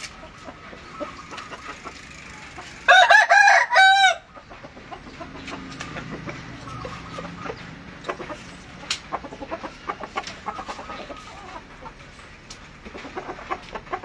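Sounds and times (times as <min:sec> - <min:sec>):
chicken pitched calls: 0:00.0 - 0:14.0
chickens clucking: 0:00.0 - 0:14.0.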